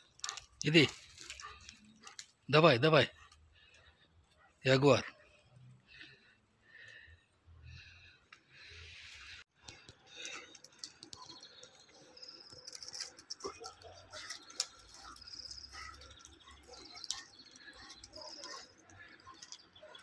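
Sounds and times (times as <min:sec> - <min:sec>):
birds trilling and chirping: 0:00.0 - 0:20.0.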